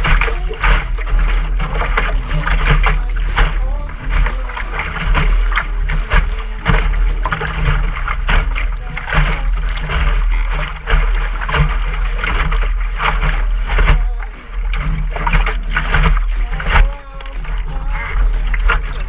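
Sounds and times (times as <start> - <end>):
water splashing along hull: 0.0 - 19.0.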